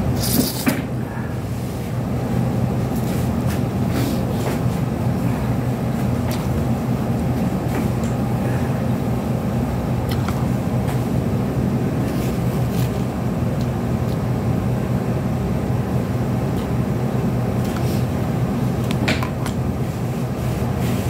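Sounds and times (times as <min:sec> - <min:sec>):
fan motor hum: 0:00.0 - 0:21.0.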